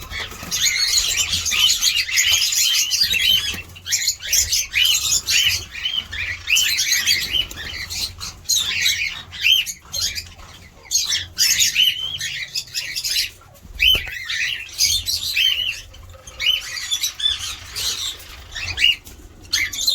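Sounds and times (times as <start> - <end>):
cockatiels chirping and squawking: 0.0 - 19.9.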